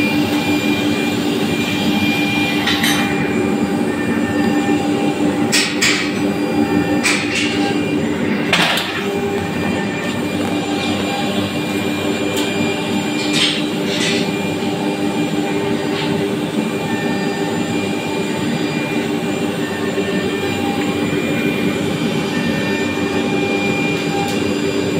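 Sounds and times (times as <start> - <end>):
router machine drone with whine: 0.0 - 24.9.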